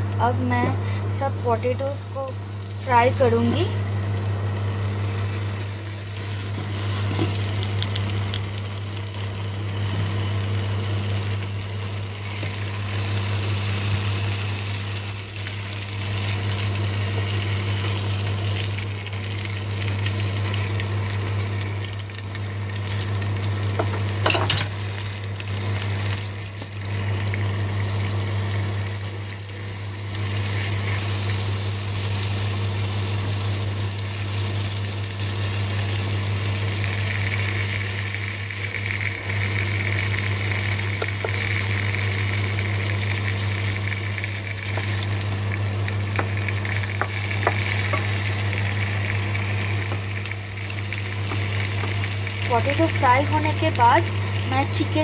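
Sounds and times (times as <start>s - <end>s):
potatoes sizzling in oil: 0.3s - 55.0s.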